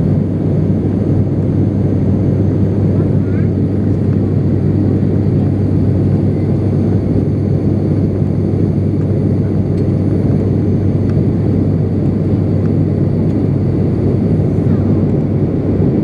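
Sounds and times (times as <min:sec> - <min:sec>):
turboprop engine drone in cabin: 0:00.0 - 0:16.0.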